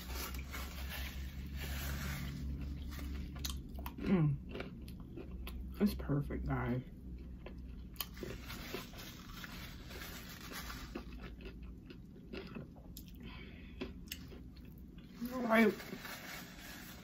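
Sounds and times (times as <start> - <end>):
chewing with soft crunches: 0.0 - 15.3.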